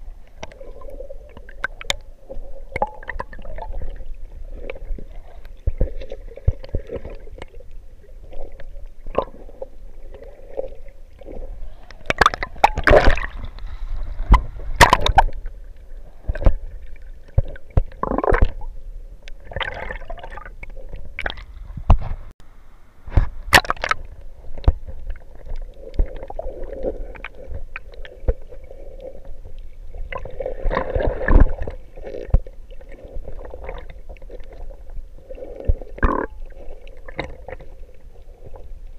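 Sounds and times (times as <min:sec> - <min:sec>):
water gurgling and sloshing underwater: 0:00.0 - 0:22.3, 0:23.1 - 0:38.9.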